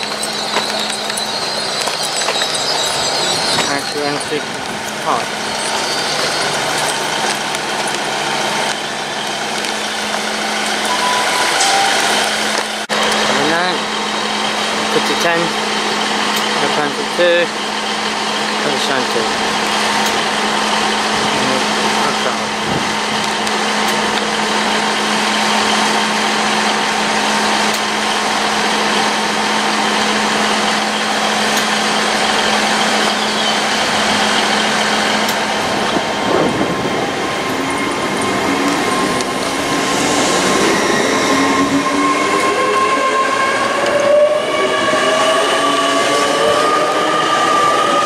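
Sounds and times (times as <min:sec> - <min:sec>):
electric train humming and pulling away: 0:00.0 - 0:48.0.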